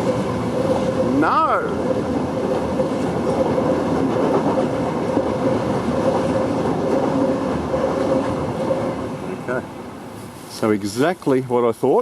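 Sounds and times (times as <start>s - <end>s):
train rumbling over rails: 0.0s - 12.0s.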